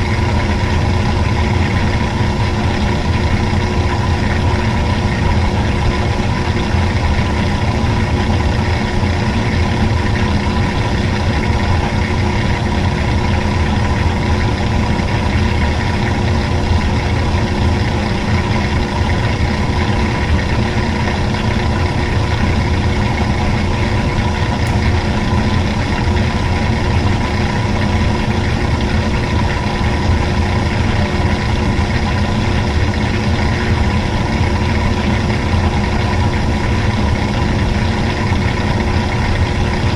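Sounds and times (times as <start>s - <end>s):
washing machine motor humming: 0.0s - 39.9s.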